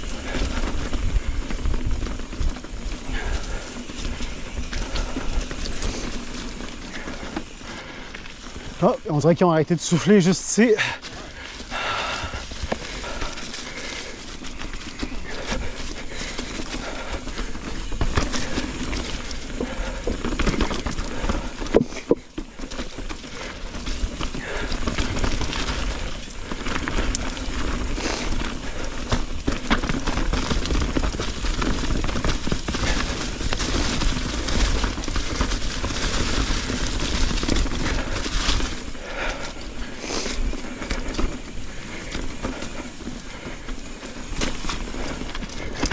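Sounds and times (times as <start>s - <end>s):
bike knocking and rattling: 0.0s - 45.9s
bike tyres crackling through leaves: 0.0s - 45.9s.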